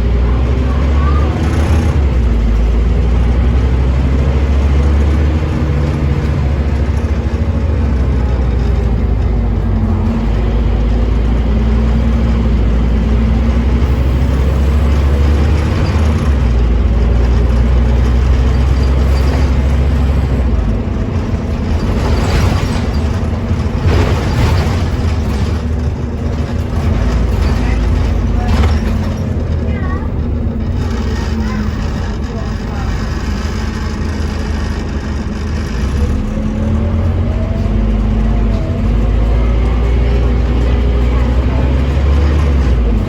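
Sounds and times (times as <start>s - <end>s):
bus diesel engine droning: 0.0s - 43.0s.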